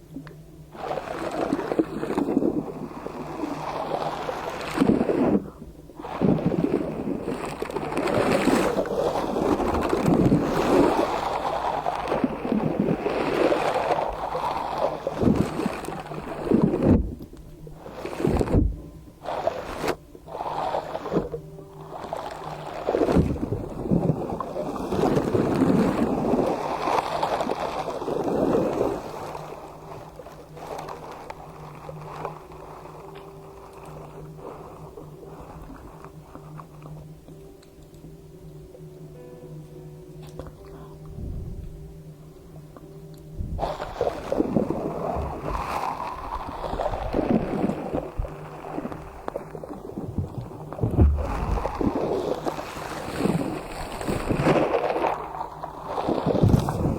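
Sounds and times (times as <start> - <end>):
slime squelching and crackling: 0.7 - 37.0, 43.6 - 56.9.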